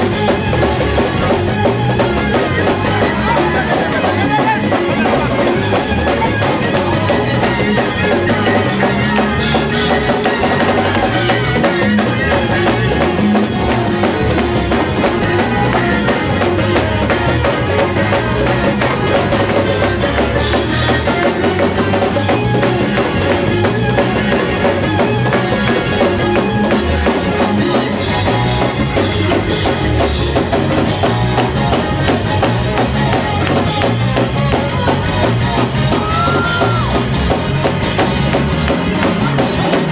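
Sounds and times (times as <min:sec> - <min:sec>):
band playing gospel music: 0:00.0 - 0:39.9
drum kit: 0:00.0 - 0:39.9.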